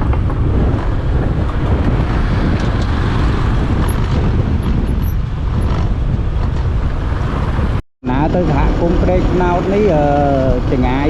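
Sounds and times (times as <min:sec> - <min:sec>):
vehicle and road noise: 0:00.0 - 0:11.0
wind buffeting microphone: 0:00.0 - 0:11.0.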